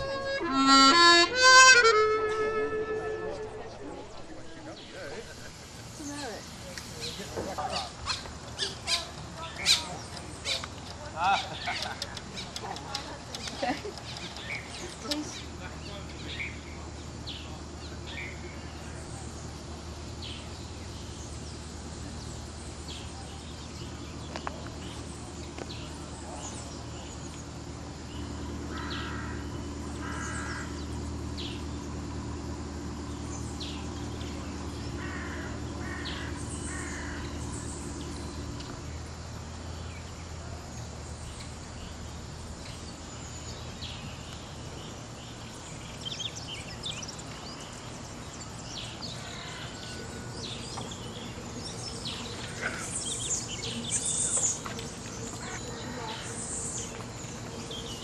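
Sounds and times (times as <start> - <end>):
birds chirping: 0.0 - 58.0
boat engine humming: 0.0 - 58.0.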